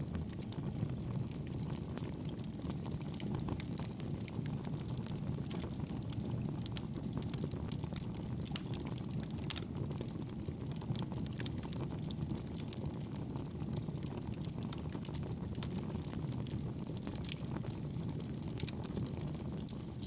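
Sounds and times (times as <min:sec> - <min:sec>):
fire crackling in a fireplace: 0:00.0 - 0:20.0.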